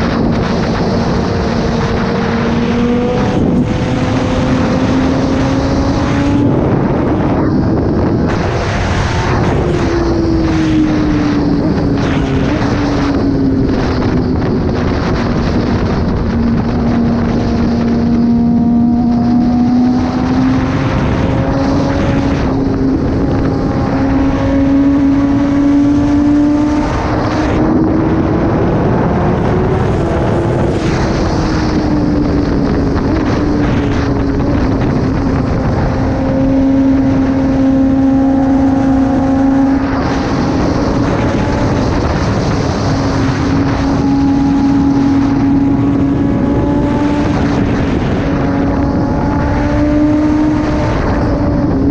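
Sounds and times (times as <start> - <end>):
motorcycle engine: 0.0 - 51.9
wind rush on microphone: 0.0 - 51.9.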